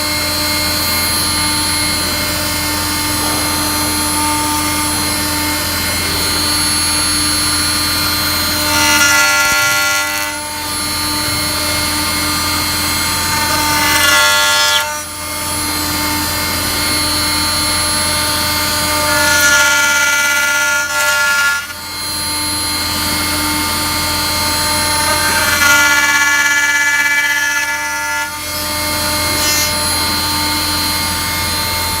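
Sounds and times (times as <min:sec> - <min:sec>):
cnc router cutting wood: 0:00.0 - 0:32.0.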